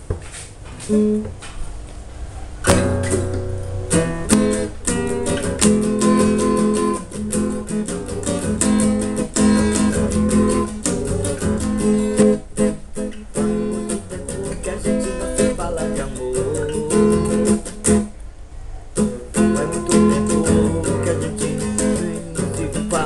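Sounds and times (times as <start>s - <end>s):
acoustic guitar strumming: 0.8s - 1.4s, 2.6s - 18.2s, 19.0s - 23.0s.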